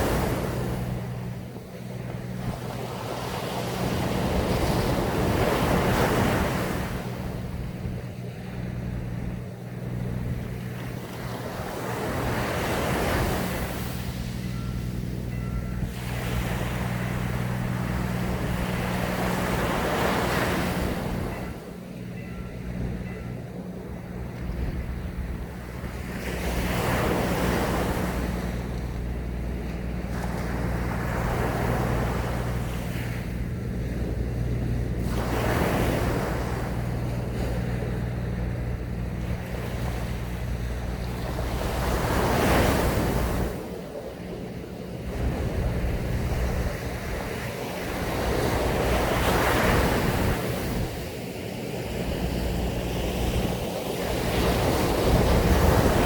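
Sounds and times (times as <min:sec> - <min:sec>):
sea waves breaking on a beach: 0:00.0 - 0:56.0
steady low hum: 0:00.0 - 0:56.0
wind on the microphone: 0:00.0 - 0:56.0.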